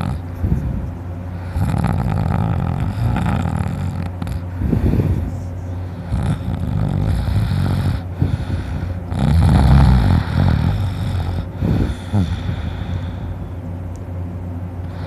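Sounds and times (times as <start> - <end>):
man snoring deeply: 0.0 - 0.3, 1.4 - 13.4.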